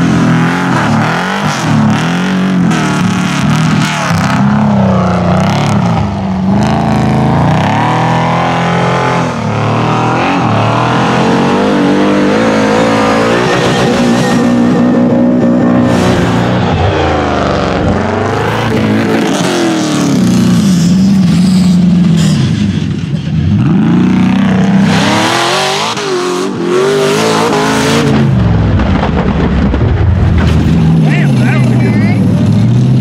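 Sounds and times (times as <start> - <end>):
buggy engines revving: 0.0 - 33.0.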